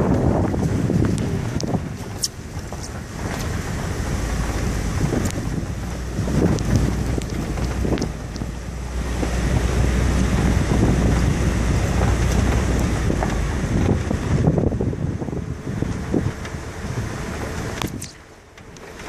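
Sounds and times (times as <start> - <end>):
car driving on rough gravel: 0.0 - 19.0.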